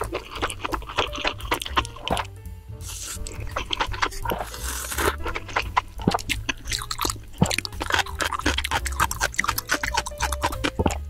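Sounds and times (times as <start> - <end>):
person slurping noodles: 0.0 - 11.0
soft background music: 0.0 - 11.0
wet chewing: 0.0 - 11.0.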